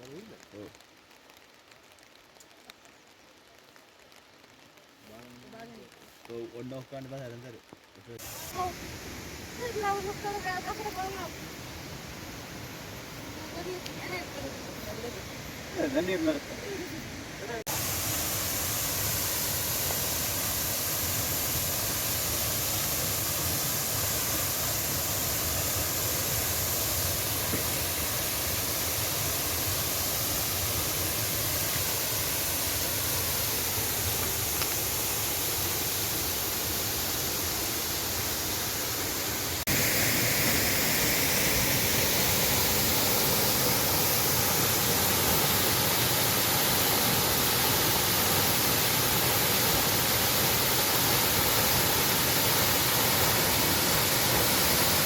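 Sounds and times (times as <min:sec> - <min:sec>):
waterfall rushing: 0:08.2 - 0:55.0.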